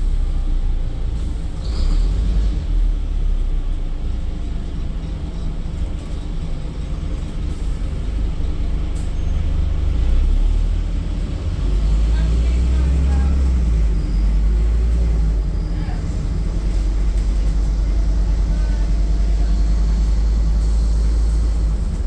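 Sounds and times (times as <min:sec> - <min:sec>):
bus engine rumble: 0:00.0 - 0:22.0
road noise: 0:00.0 - 0:22.0.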